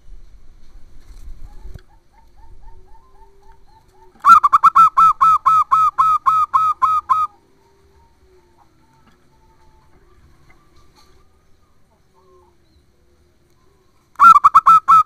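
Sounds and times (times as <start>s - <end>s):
dove cooing: 1.4s - 15.0s.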